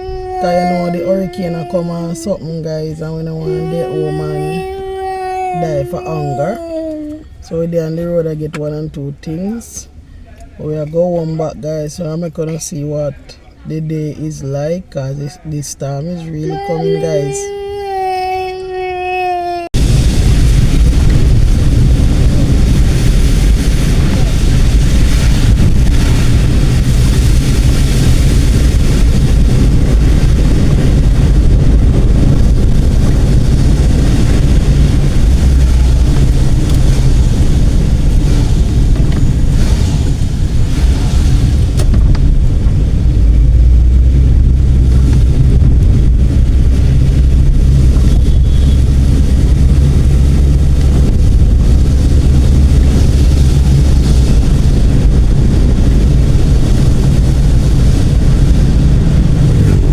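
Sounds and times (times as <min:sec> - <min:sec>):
vehicle engine and road noise: 0:00.0 - 0:19.2, 0:19.8 - 0:59.9.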